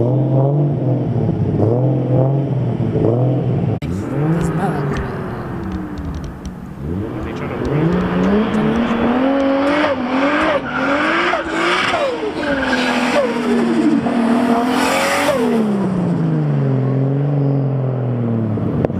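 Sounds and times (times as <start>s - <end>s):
turbo car engine revving: 0.0s - 18.9s.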